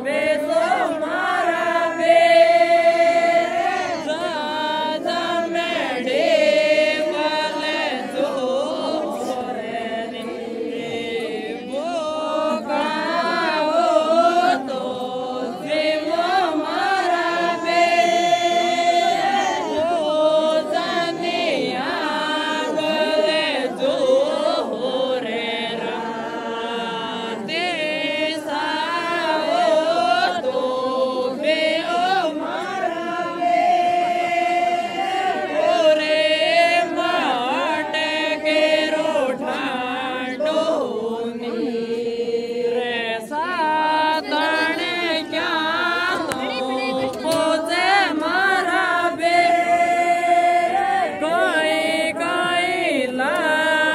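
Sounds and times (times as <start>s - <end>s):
voices singing folk song together: 0.0s - 53.9s.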